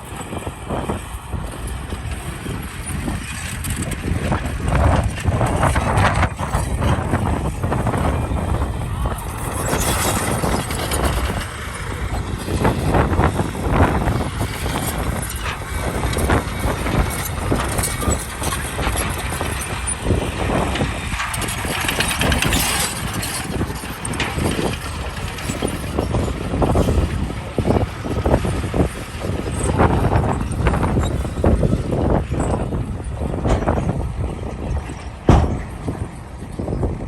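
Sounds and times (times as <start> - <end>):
diesel engine rumble: 0.0 - 37.0
irregular machinery clatter: 0.0 - 37.0.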